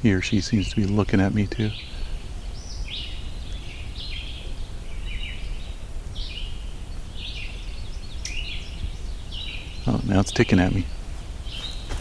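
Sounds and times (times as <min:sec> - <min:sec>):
low background rumble: 0:00.0 - 0:12.0
songbird singing: 0:00.0 - 0:12.0.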